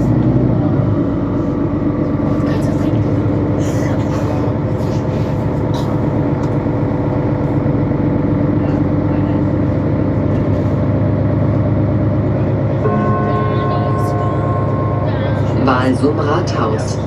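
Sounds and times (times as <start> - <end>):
bus diesel engine drone: 0.0 - 17.0
drivetrain whine: 0.0 - 17.0.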